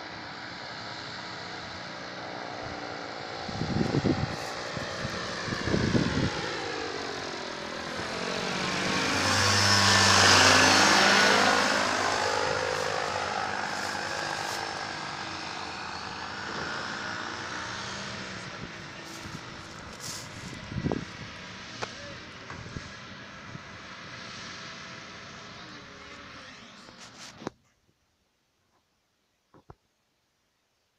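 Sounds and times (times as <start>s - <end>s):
paramotor engine droning: 0.0s - 27.5s.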